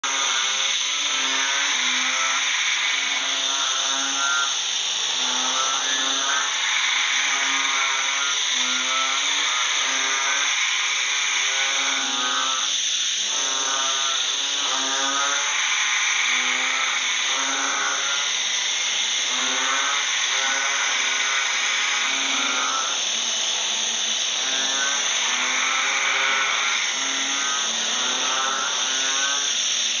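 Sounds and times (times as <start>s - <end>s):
frogs calling in chorus: 0.0s - 30.0s
high-pitched insect drone: 0.0s - 30.0s.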